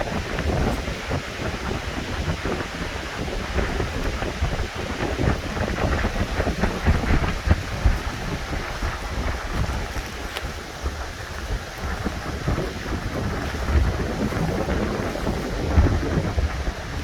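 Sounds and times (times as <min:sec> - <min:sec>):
rustling and crackling: 0:00.0 - 0:17.0
wind buffeting microphone: 0:00.0 - 0:17.0.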